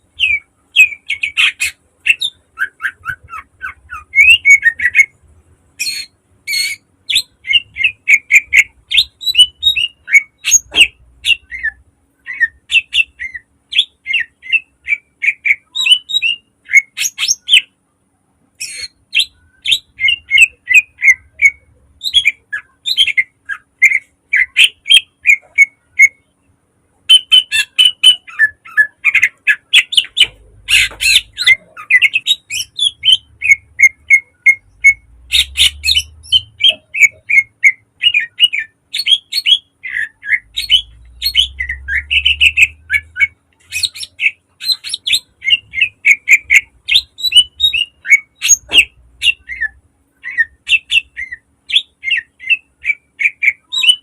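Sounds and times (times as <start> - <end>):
bird singing rapid chirps: 0.0 - 5.2, 5.8 - 17.8, 18.6 - 54.0.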